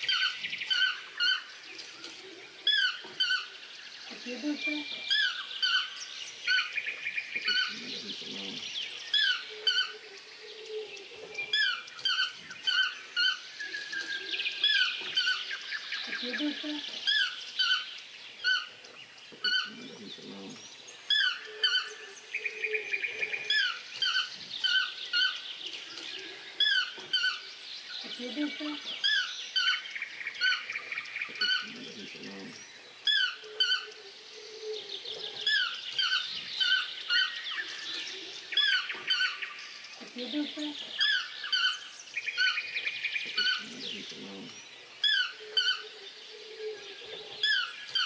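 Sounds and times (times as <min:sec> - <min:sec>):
lower bird calls: 0:00.0 - 0:48.0.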